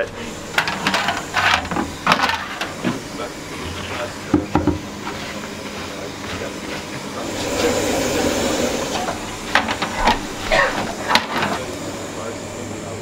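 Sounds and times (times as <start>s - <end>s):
oven flame hissing: 0.0s - 13.0s.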